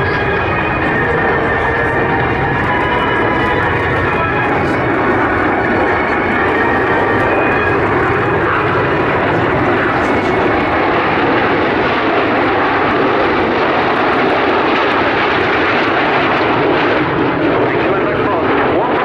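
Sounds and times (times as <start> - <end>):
aircraft engine noise: 0.0 - 19.0.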